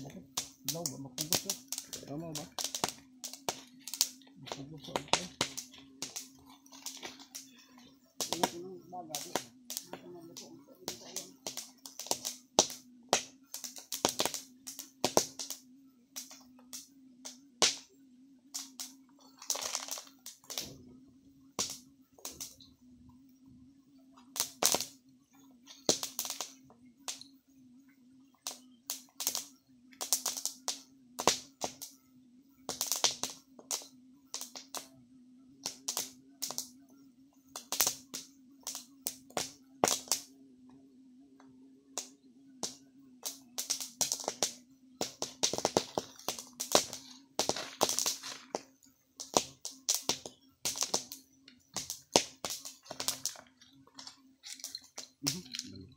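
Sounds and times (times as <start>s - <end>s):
wood fire crackling and popping: 0.0s - 15.6s, 16.2s - 17.9s, 18.5s - 20.8s, 21.6s - 22.7s, 24.2s - 25.0s, 25.7s - 27.3s, 28.4s - 32.0s, 32.7s - 34.9s, 35.6s - 36.7s, 37.5s - 40.3s, 42.0s - 55.8s.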